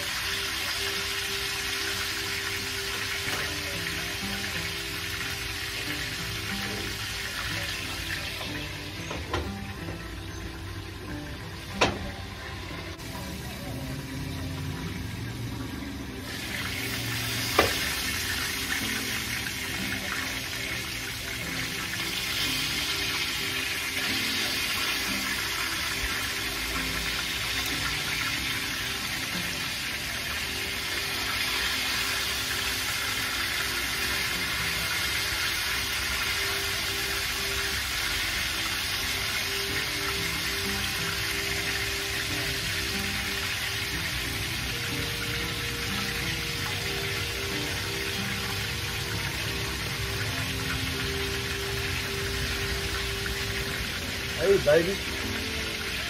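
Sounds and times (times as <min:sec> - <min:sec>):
chicken sizzling in hot grease: 0:00.0 - 0:56.0.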